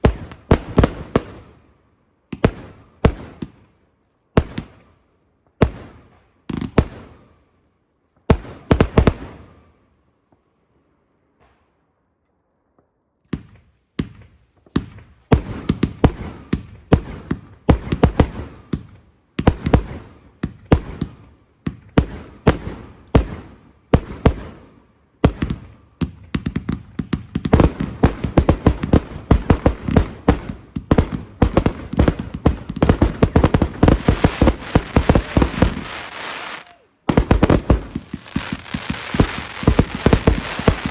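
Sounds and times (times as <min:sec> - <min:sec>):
fireworks bangs and crackling: 0:00.0 - 0:01.7, 0:02.3 - 0:03.7, 0:04.4 - 0:04.9, 0:05.5 - 0:07.3, 0:08.2 - 0:09.6, 0:12.7 - 0:40.9.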